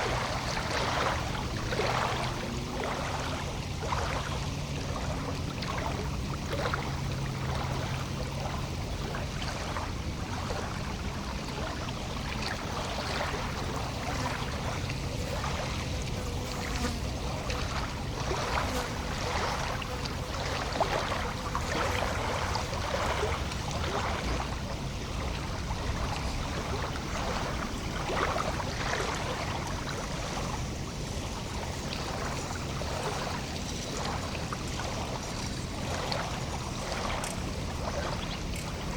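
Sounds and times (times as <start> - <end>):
water lapping against shore: 0.0 - 38.9.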